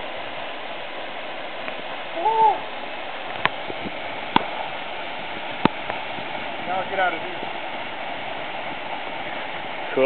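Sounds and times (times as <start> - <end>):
waterfall rushing water: 0.0 - 10.0.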